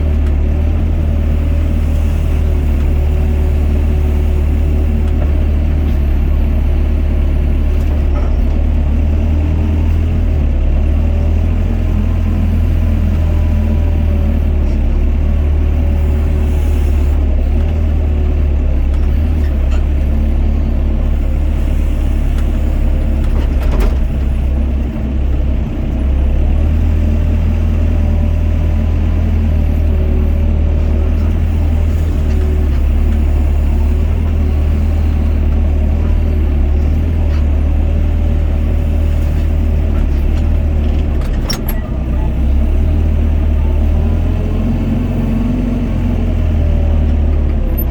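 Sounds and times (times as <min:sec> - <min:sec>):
excavator diesel engine rumbling: 0:00.0 - 0:47.9.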